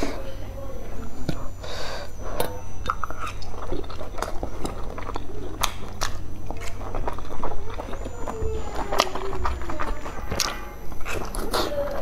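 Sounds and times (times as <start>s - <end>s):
person chewing with wet smacks: 2.2s - 12.0s.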